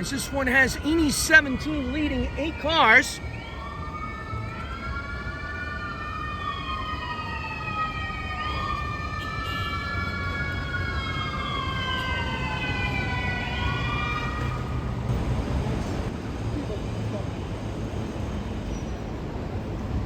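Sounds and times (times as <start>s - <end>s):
emergency vehicle siren wailing: 0.0s - 16.1s.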